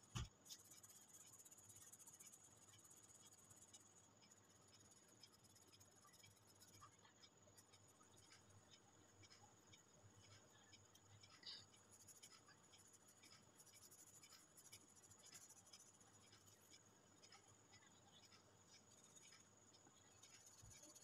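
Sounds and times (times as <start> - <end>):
felt-tip pen scratching on paper: 0.2 - 21.0.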